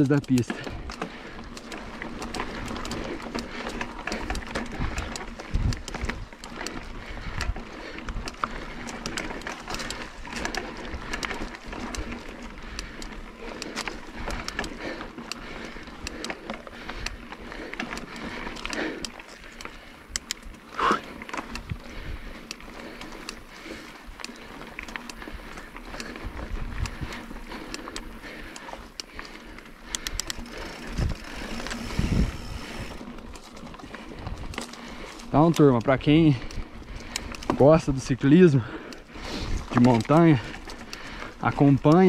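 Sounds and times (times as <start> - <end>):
bike chain and frame rattling: 0.0 - 42.0
tyres crunching on dirt: 0.0 - 42.0.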